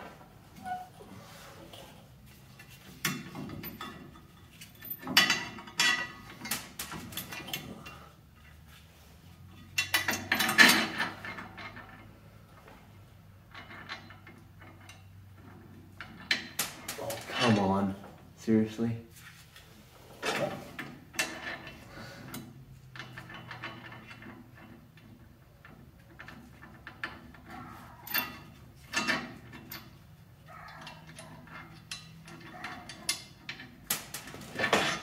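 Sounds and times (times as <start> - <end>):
metal tools clanking and scraping: 0.6 - 8.8, 9.4 - 12.3, 13.4 - 17.9, 20.2 - 35.0.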